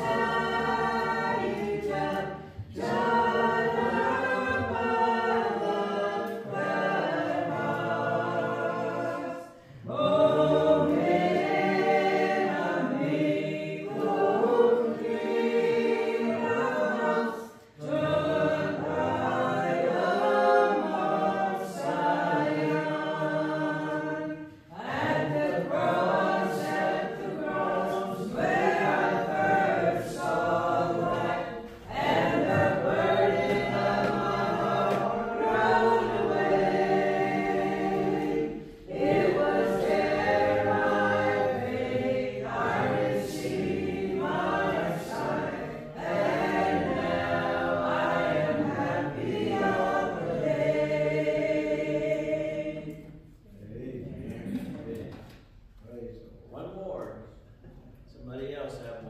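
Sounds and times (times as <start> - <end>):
congregation singing a hymn: 0.0 - 55.8.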